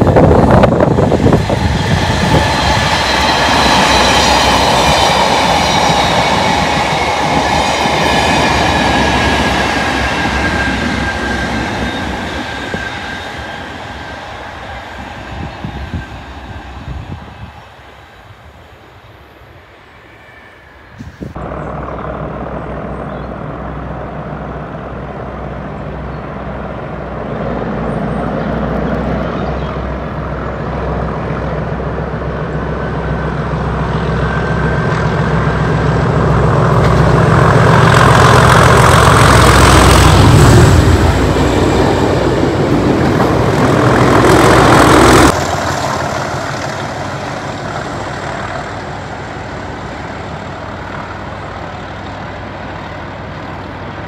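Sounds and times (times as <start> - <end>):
diesel locomotive engines running: 0.0 - 54.0
train on rails: 0.0 - 54.0.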